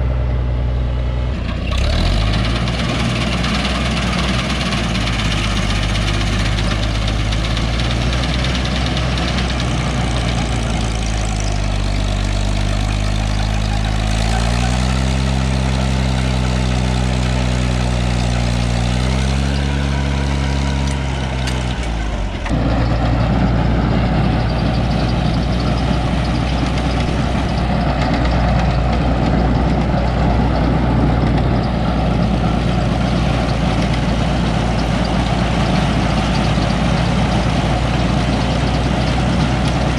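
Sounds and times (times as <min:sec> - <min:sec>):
tractor engine running: 0:00.0 - 0:39.9
machinery noise: 0:01.4 - 0:39.9.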